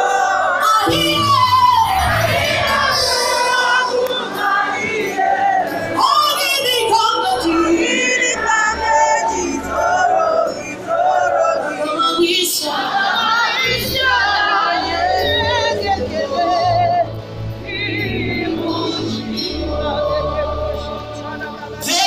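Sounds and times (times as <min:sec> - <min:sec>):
gospel band playing: 0:00.0 - 0:22.0
singers holding wavering notes: 0:00.0 - 0:22.0.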